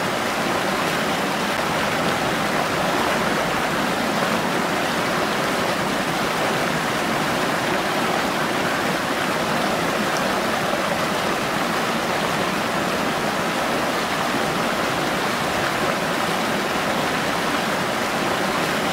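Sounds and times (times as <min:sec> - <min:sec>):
water rushing over weir: 0:00.0 - 0:18.9.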